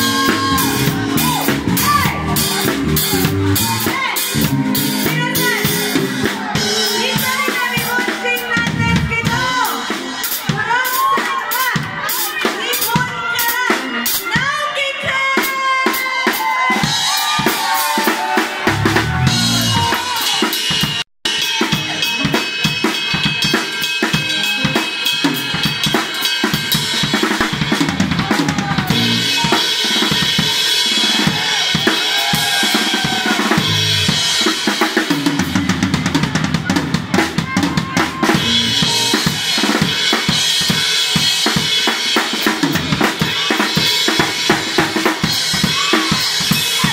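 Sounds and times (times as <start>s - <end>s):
drum kit playing: 0.0s - 46.9s
live band playing: 0.0s - 46.9s.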